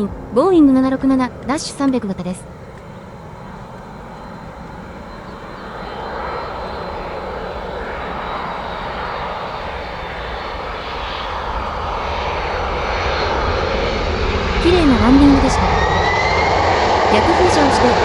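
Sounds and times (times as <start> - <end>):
faint high whine: 0.0 - 18.0
jet airliner engine noise: 0.0 - 18.0.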